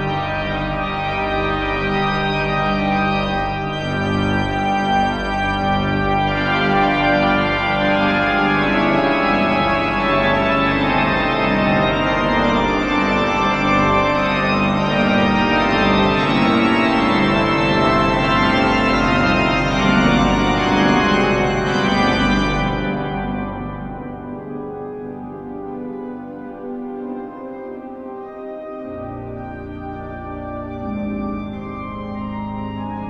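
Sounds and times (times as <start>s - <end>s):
organ playing sustained chords: 0.0s - 33.0s.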